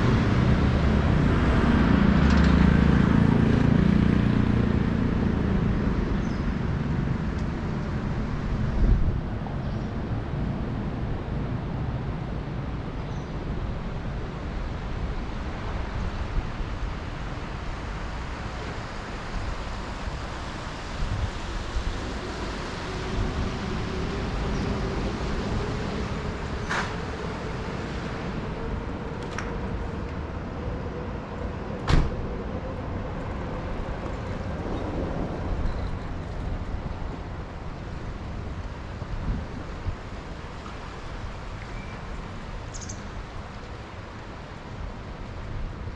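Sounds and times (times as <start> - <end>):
vehicle engine hum passing: 0.0 - 12.9, 14.4 - 45.9
city traffic: 0.0 - 45.9
wind noise: 0.0 - 45.9.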